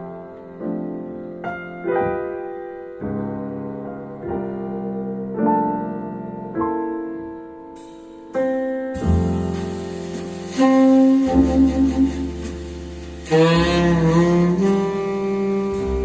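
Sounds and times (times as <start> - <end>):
slow keyboard chords: 0.0 - 16.0.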